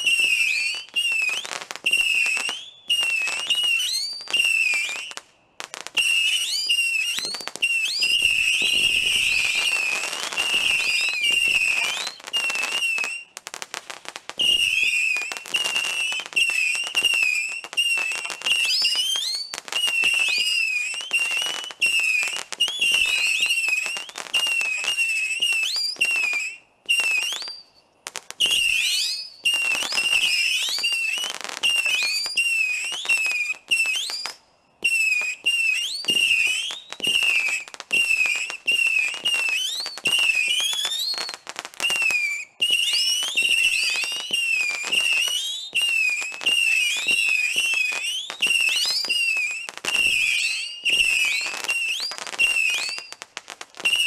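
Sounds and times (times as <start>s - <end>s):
firework whistles: 0.0s - 54.0s
sharp firework pops: 0.0s - 54.0s.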